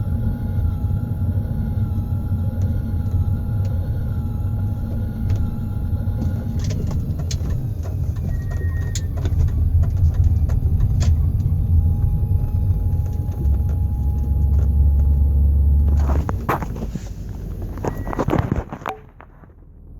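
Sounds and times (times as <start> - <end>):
squeaking bearing whine: 0.0 - 19.6
driveline and road rumble: 0.0 - 19.9.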